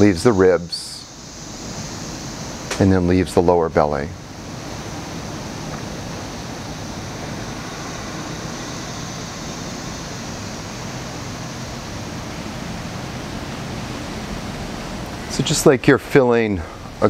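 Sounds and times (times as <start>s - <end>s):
faint high steady tone: 0.0s - 17.0s
steady hiss: 0.0s - 17.0s.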